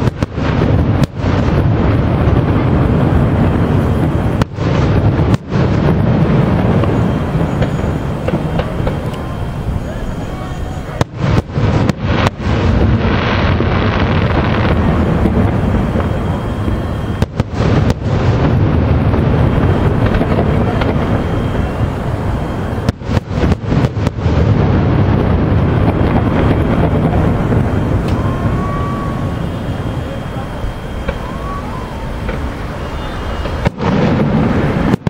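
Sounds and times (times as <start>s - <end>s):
fireworks shells bursting: 0.0s - 35.0s.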